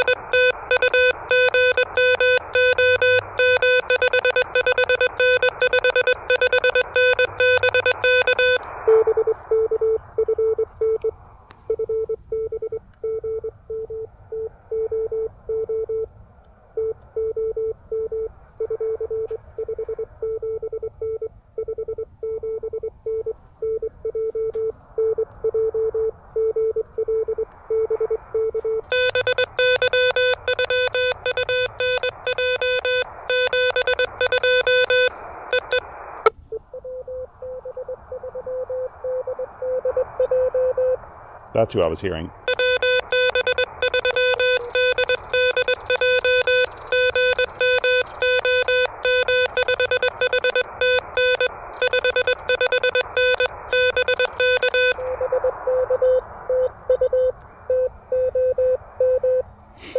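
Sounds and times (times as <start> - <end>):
receiver hiss: 0.0 - 15.5, 22.0 - 59.9
morse code keyed tone: 0.0 - 16.1, 16.8 - 35.9, 36.5 - 41.0, 42.4 - 59.4
morse code sidetone: 0.0 - 16.1, 16.8 - 35.9, 36.5 - 41.0, 42.4 - 59.4.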